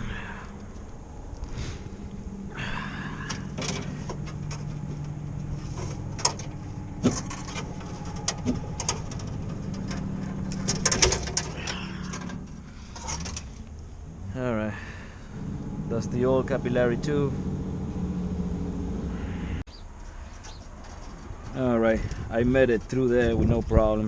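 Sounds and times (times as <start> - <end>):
steady low hum: 0.0 - 19.7.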